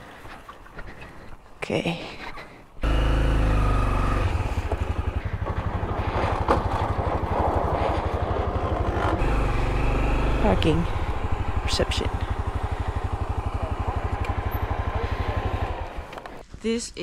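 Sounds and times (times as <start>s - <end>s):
motorcycle engine idling: 2.8s - 16.4s.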